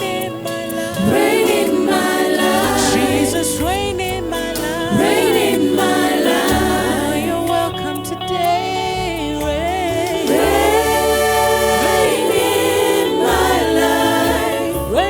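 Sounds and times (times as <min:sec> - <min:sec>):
choir singing gospel: 0:00.0 - 0:15.0
instrumental accompaniment: 0:00.0 - 0:15.0.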